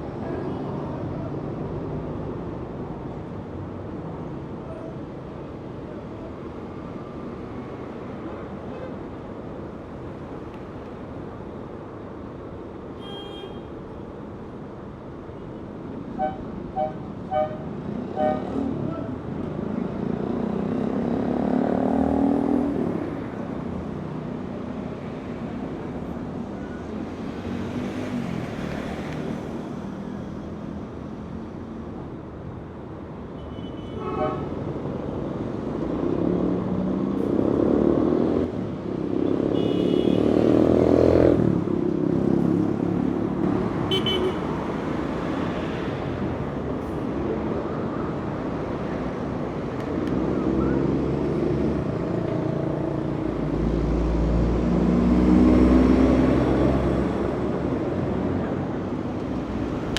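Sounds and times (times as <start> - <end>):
passing vehicles: 0.0 - 59.9.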